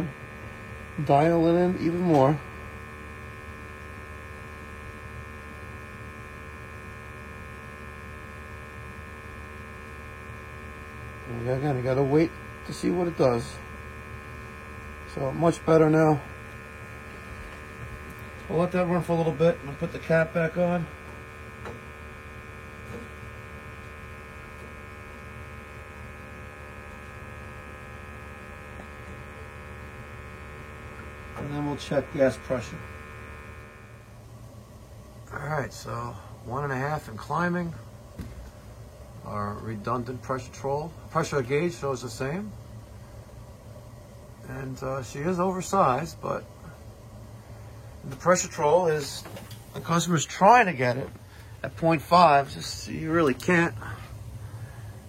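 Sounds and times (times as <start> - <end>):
gas boiler humming: 0.0 - 55.0
high whine of analyzer: 0.0 - 55.0.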